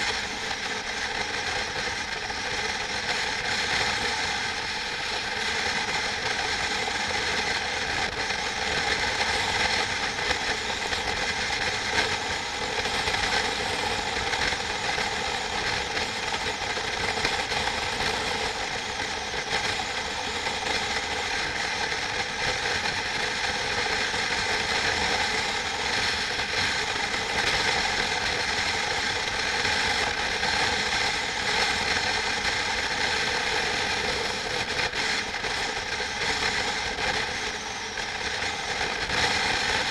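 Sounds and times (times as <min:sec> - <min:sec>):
machinery whirring drone: 0:00.0 - 0:39.9.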